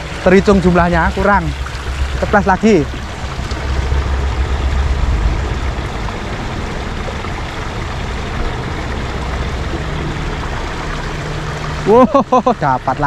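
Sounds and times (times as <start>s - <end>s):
road traffic rumble and hiss: 0.0s - 13.0s.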